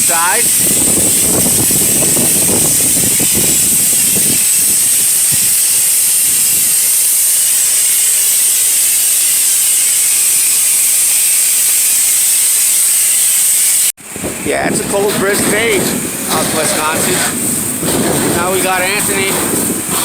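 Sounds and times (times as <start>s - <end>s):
spray nozzle hissing: 0.0s - 13.9s, 15.3s - 20.0s.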